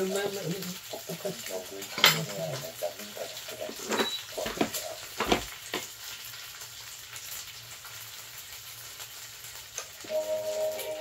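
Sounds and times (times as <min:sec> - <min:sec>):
pork sizzling on a griddle: 0:00.0 - 0:11.0.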